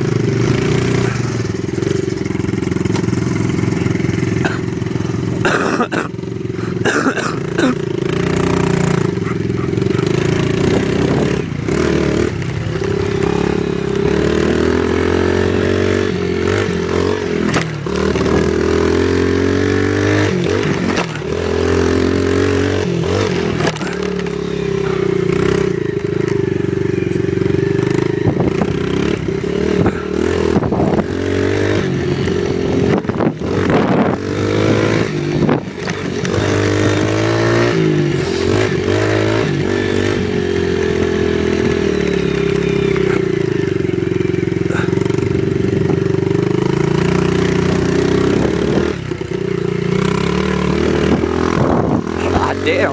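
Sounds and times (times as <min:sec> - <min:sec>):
small vehicle engine revving: 0:00.0 - 0:52.9.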